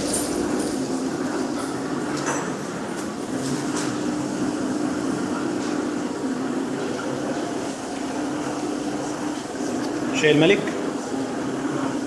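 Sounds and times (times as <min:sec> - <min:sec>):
packing machine humming: 0:00.0 - 0:12.0.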